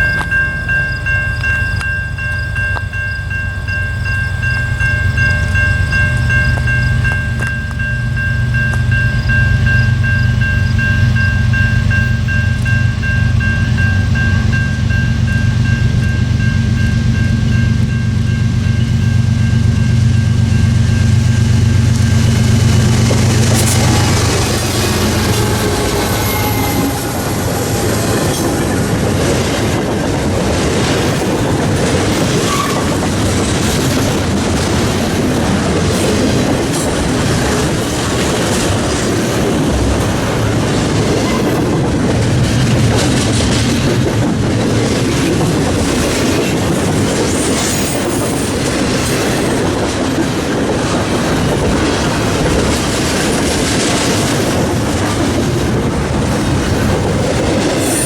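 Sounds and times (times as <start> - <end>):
train wheels clacking over rails: 0.0 - 58.0.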